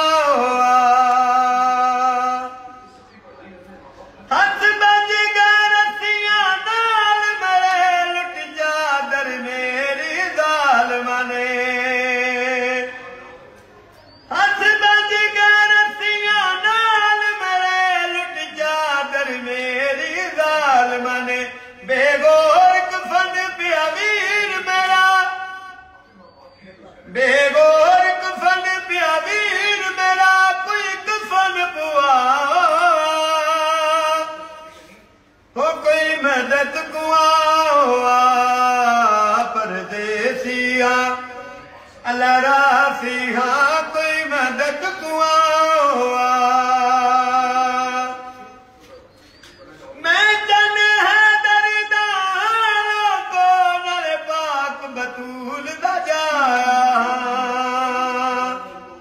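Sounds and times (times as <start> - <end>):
man singing unaccompanied: 0.0 - 2.9, 4.3 - 13.4, 14.2 - 26.0, 27.0 - 34.9, 35.5 - 48.6, 50.0 - 59.0.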